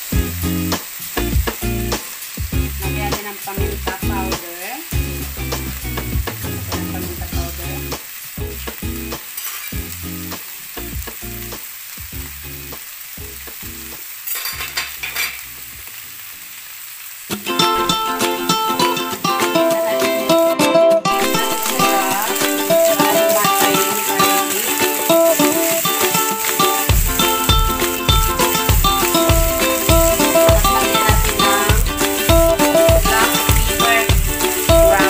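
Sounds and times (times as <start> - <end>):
meat sizzling in oil: 0.0 - 35.0.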